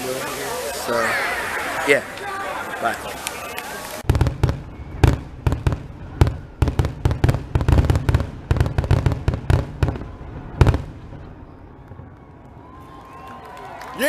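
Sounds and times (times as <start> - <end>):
fireworks bangs and crackles: 0.0 - 12.8.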